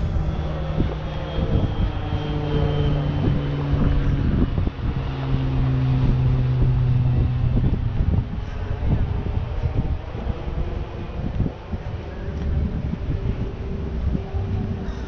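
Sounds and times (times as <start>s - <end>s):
propeller aircraft engine droning: 0.0s - 15.0s.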